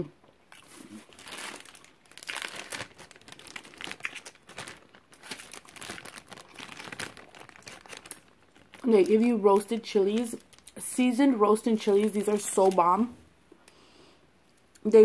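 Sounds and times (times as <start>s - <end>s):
plastic bags crinkling: 0.5s - 13.1s.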